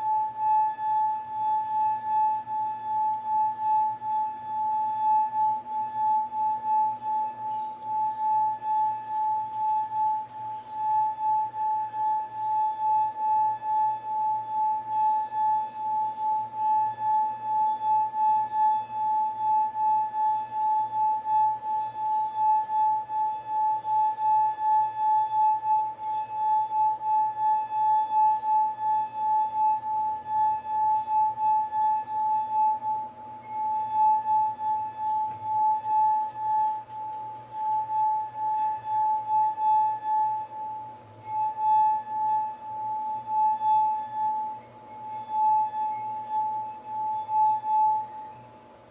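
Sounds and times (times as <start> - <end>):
wine glass ringing tone: 0.0 - 48.9.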